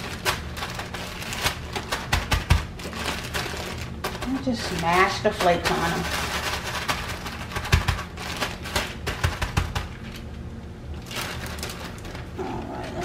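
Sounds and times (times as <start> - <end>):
cornflakes crunching: 0.0 - 10.3, 11.0 - 13.0
plastic bag crinkling: 0.0 - 13.0.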